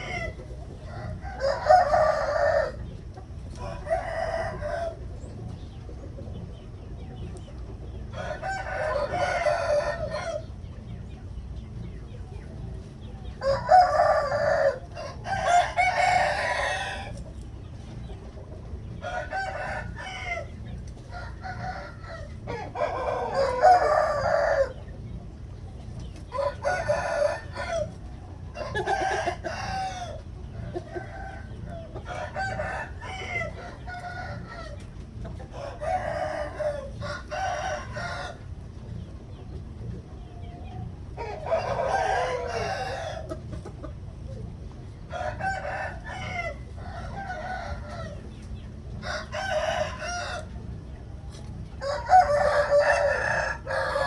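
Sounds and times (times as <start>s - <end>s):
low background rumble: 0.0s - 54.0s
roosters crowing: 0.0s - 54.0s.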